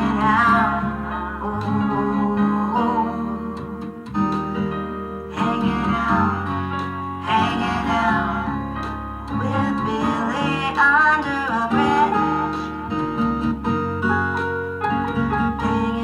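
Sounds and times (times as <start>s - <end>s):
person singing: 0.0s - 13.7s, 15.2s - 16.0s
acoustic guitar: 0.0s - 16.0s.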